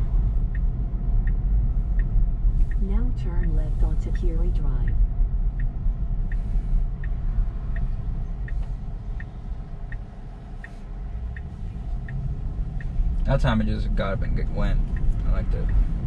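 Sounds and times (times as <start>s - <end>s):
road and tyre rumble: 0.0s - 16.0s
turn signal ticking: 0.0s - 16.0s.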